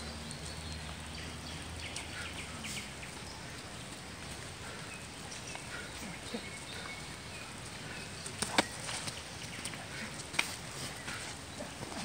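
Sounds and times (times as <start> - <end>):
light rain: 0.0 - 12.0.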